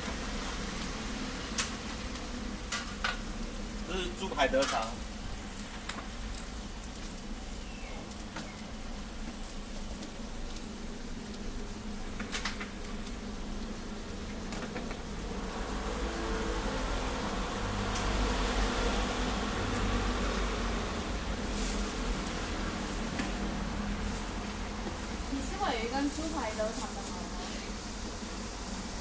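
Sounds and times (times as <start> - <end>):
buzzing drone of equipment: 0.0 - 26.0
frying hiss: 0.0 - 29.0.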